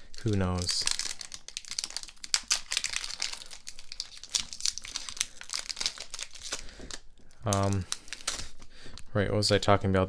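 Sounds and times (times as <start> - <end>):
foil wrapper crinkling: 0.0 - 8.7.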